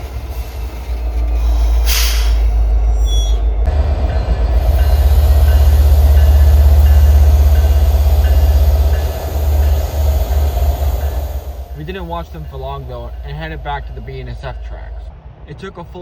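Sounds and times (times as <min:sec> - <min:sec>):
diesel locomotive engine rumble: 0:00.0 - 0:15.4.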